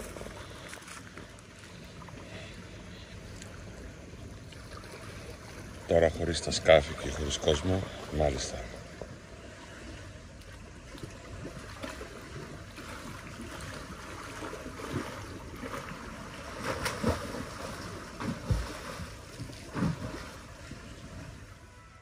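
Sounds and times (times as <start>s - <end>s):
small waves washing ashore: 0.0s - 21.7s.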